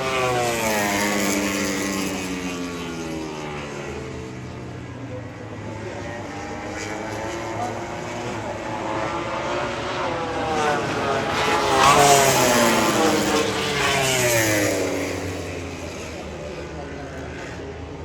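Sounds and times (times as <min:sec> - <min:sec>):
race motorcycle passing: 0:00.0 - 0:17.9.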